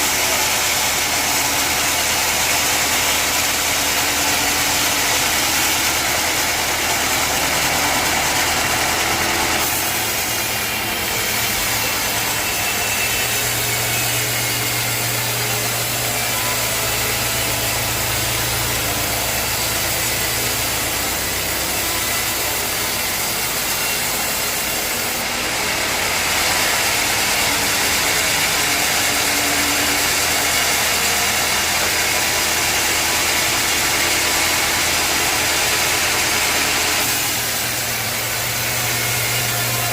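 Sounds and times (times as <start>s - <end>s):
saw cutting through log: 0.0s - 39.9s
sawmill engine drone: 0.0s - 39.9s.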